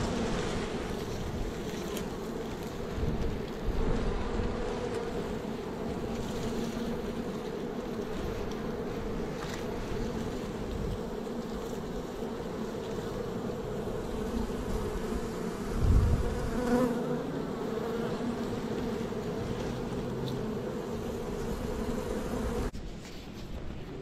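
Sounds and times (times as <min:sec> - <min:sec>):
bee swarm buzzing: 0:00.0 - 0:22.8.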